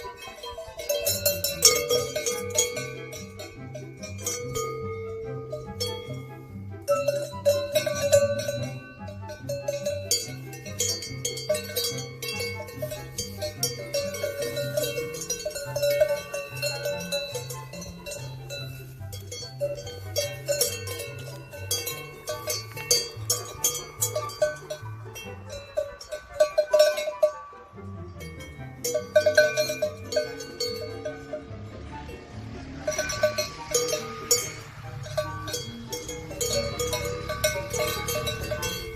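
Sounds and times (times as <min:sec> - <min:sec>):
bells clanking and ringing: 0:00.0 - 0:38.9
music with two-note bass line: 0:00.0 - 0:38.9.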